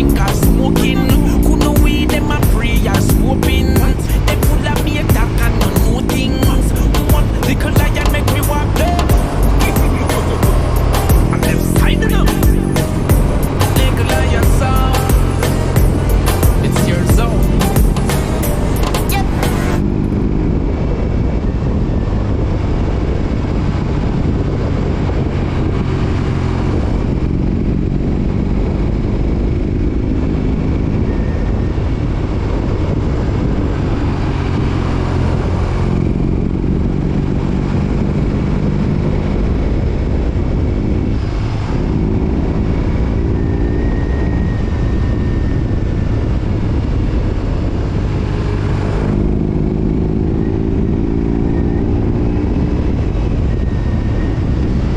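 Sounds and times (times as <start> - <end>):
motorcycle engine shifting gears: 0.0 - 54.9.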